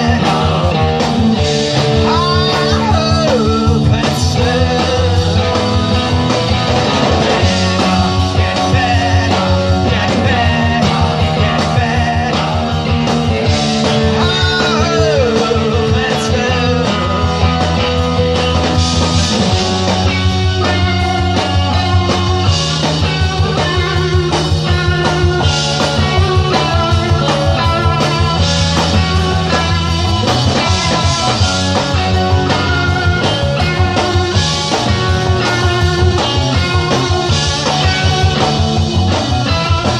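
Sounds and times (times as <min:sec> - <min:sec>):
guitar bending notes: 0:00.0 - 0:39.9
rock band playing live: 0:00.0 - 0:39.9.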